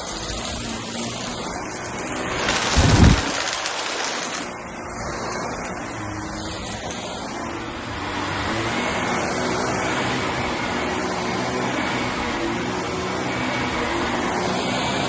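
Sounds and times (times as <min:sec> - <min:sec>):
vacuum cleaner on carpet: 0:00.0 - 0:15.0.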